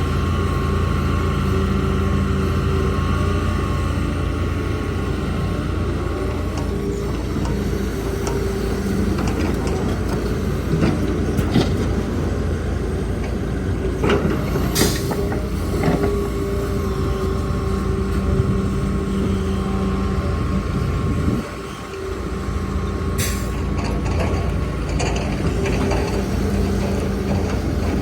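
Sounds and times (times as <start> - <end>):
diesel engines rumbling: 0.0 - 28.0.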